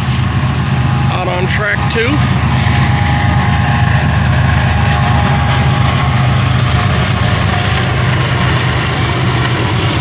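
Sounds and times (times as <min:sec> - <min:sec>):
locomotive engines droning: 0:00.0 - 0:10.0.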